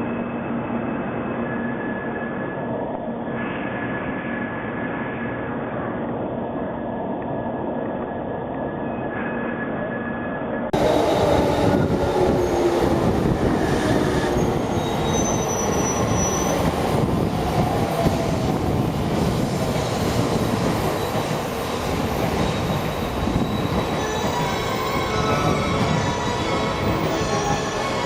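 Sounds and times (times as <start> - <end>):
train wheel and rail noise: 0.0 - 28.0.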